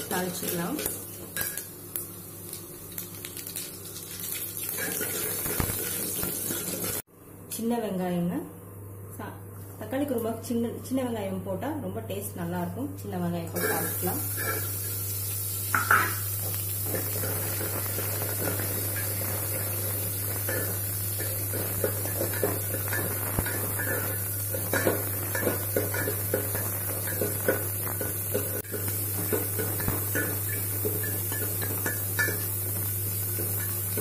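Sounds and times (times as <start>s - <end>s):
onions frying in oil: 0.0s - 7.0s, 13.5s - 34.0s.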